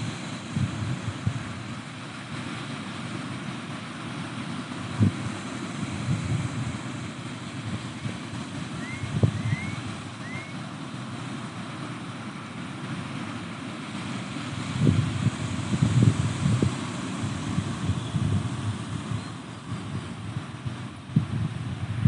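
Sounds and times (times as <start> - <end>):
wind buffeting microphone: 0.0 - 3.3, 4.1 - 11.1, 14.0 - 22.0
surf washing against shore: 0.0 - 22.0.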